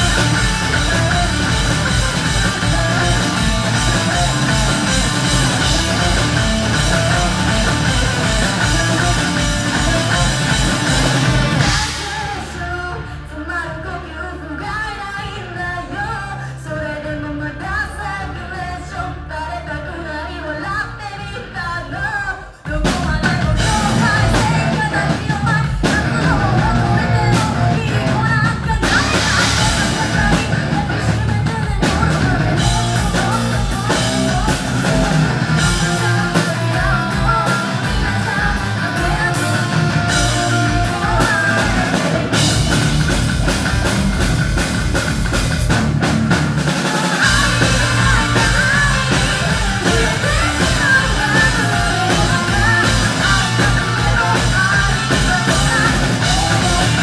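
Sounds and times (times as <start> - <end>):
hard rock band playing live: 0.0 - 19.9, 20.6 - 57.0
woman singing: 0.0 - 42.5, 47.0 - 57.0.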